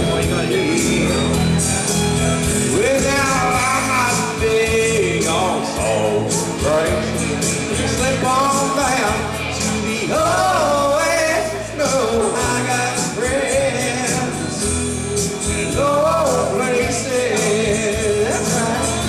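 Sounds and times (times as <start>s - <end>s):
man singing: 0.0s - 1.5s, 2.4s - 19.0s
drums keeping a steady beat: 0.0s - 19.0s
electric guitar: 0.0s - 19.0s.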